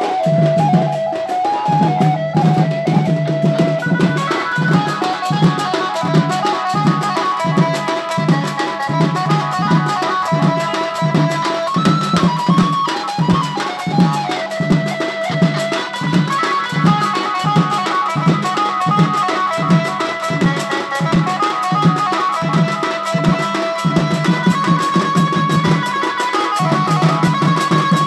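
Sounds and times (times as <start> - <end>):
drum beating steady rhythm: 0.0 - 28.0
held melody line: 0.0 - 28.0.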